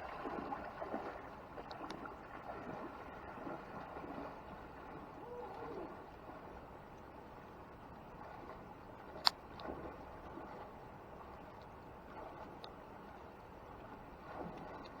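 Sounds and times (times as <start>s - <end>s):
person wading through water: 0.0s - 15.0s.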